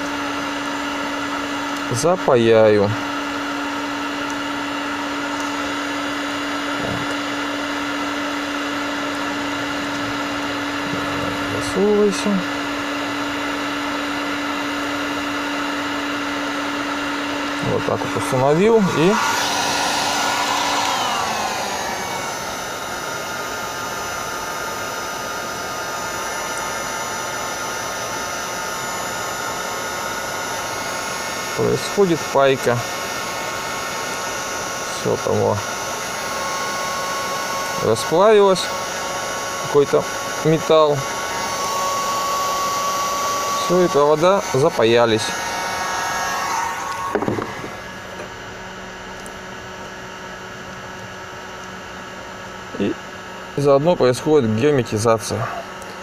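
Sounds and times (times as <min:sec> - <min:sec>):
heat gun blowing: 0:03.2 - 0:48.3.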